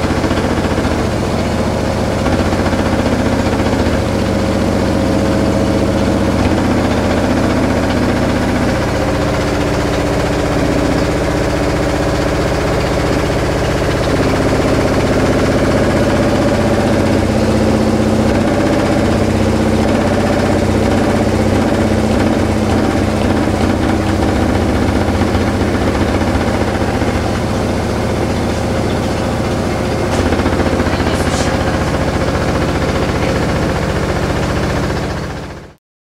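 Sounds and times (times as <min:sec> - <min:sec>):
washing machine vibrating rattle: 0:00.0 - 0:35.8.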